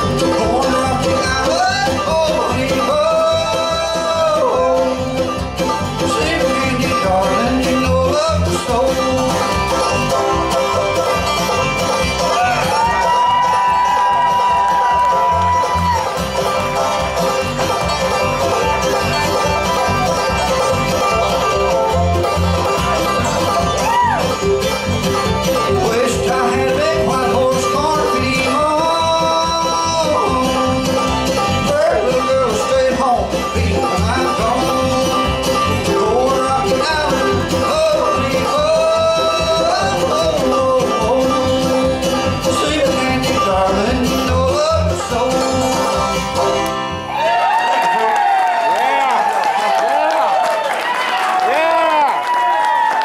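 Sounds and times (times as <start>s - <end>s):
banjo: 0.0s - 51.9s
bluegrass band playing: 0.0s - 53.0s.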